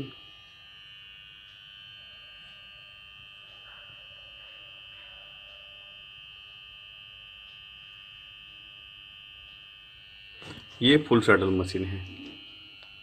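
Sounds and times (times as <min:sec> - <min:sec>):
electrical hum with high whine: 0:00.0 - 0:13.0.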